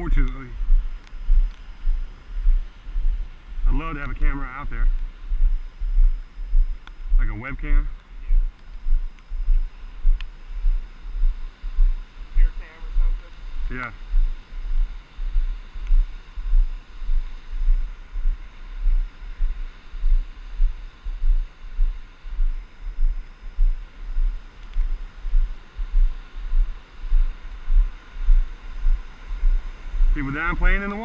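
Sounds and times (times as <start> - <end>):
rain hiss: 0.0 - 31.0.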